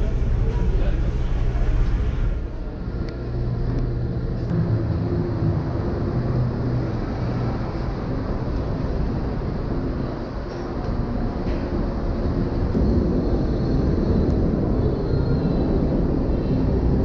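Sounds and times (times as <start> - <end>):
faint hum: 0.0 - 17.0
low background rumble: 0.0 - 17.0.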